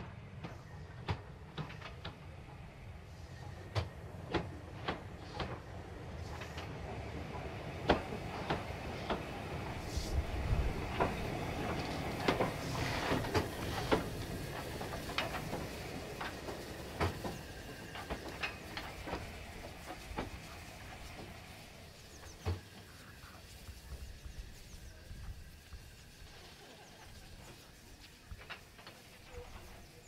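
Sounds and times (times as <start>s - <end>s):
steam hiss: 0.0s - 30.0s
locomotive wheels clanking: 0.4s - 30.0s.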